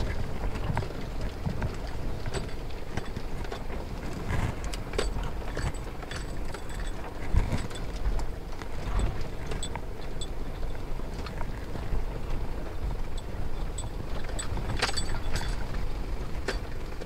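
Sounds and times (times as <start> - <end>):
vehicle engine running slowly: 0.0 - 17.0.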